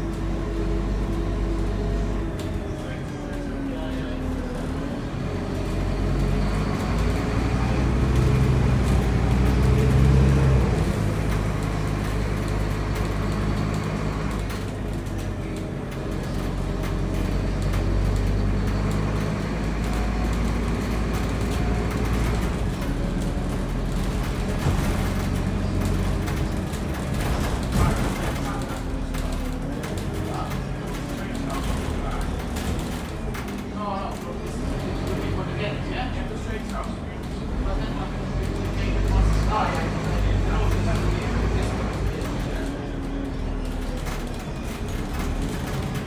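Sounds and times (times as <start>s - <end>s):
bus engine running: 0.0s - 46.0s.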